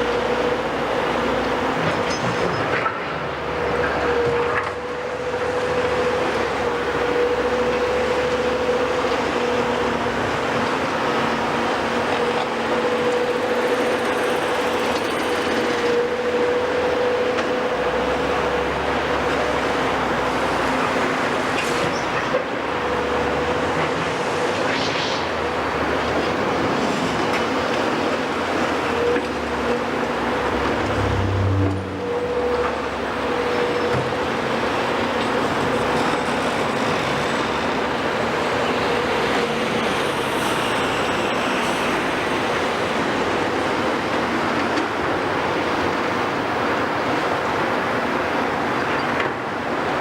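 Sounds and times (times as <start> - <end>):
constant whine: 0.0 - 49.5
diesel machinery running: 0.0 - 50.0.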